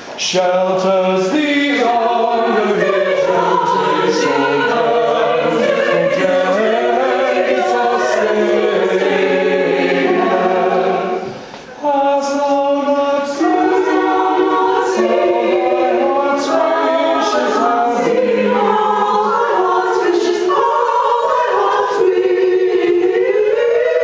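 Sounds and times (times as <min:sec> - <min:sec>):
choir singing unaccompanied: 0:00.2 - 0:24.0.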